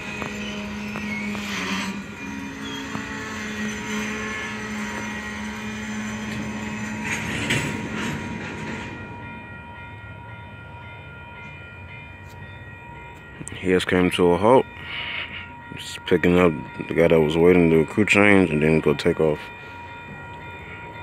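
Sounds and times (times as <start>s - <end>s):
freight train braking: 0.0s - 21.0s.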